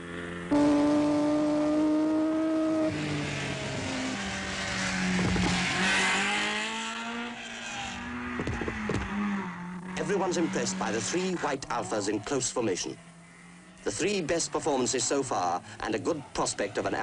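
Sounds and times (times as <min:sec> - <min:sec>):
rally car engines revving: 0:00.0 - 0:17.0
tyre and road noise: 0:00.0 - 0:17.0.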